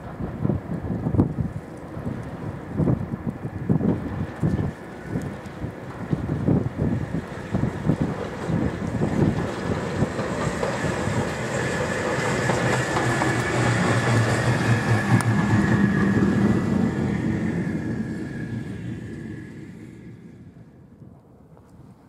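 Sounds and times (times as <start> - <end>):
wind buffeting microphone: 0.0 - 20.2
diesel locomotive engine drone: 0.0 - 22.0.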